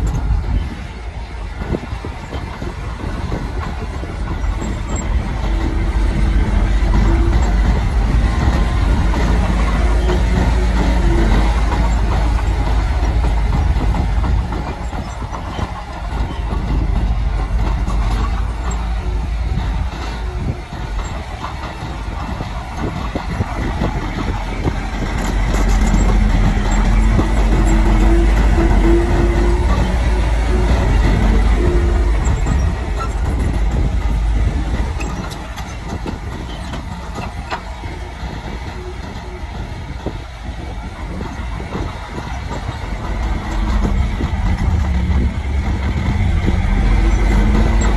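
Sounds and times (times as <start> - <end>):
bulldozer diesel engine: 0.0 - 47.9
steel tracks clattering: 0.0 - 47.9.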